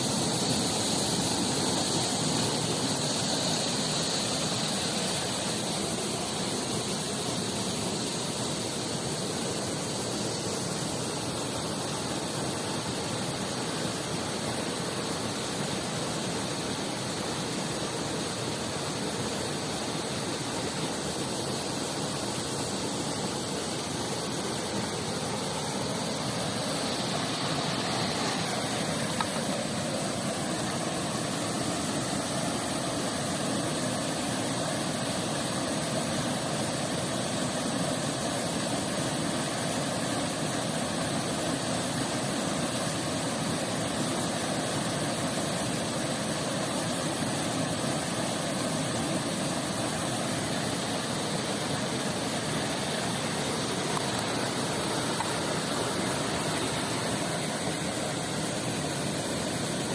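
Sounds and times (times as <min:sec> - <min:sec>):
river and waterfall rushing: 0:00.0 - 0:59.9.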